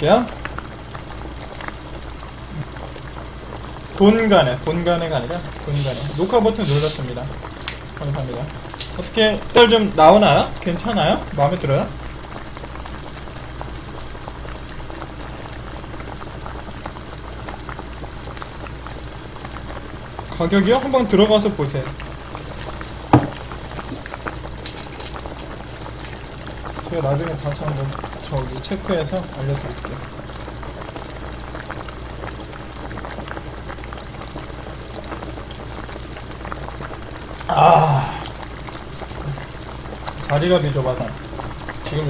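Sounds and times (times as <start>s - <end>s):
stew bubbling in a pot: 0.0s - 42.0s.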